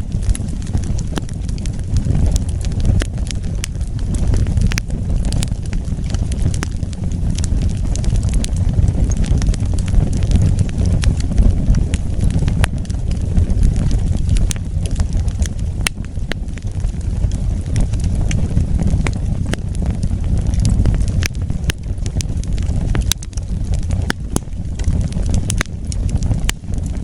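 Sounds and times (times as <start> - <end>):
crackles and pops of burning logs: 0.0 - 27.0
fire flames rushing: 0.0 - 27.0.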